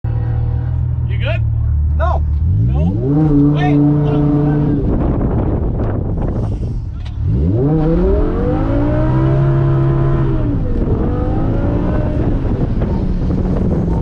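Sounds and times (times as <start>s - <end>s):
steady low rumble: 0.0s - 14.0s
car engine revving: 0.1s - 14.0s.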